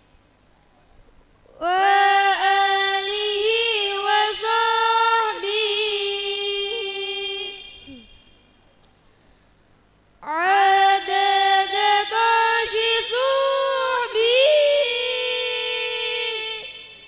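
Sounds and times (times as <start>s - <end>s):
girl singing into microphone: 1.5s - 8.4s, 10.2s - 17.0s.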